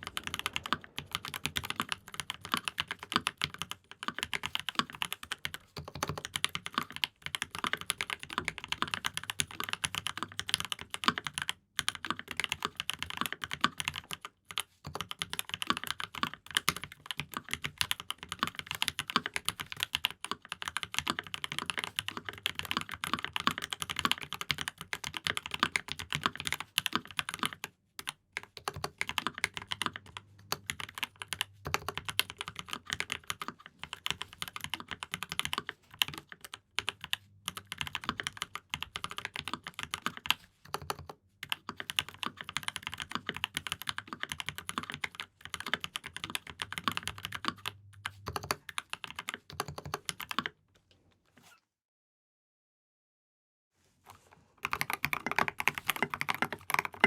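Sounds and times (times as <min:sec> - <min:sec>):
mechanical keyboard typing: 0:00.0 - 0:50.6, 0:54.6 - 0:57.0.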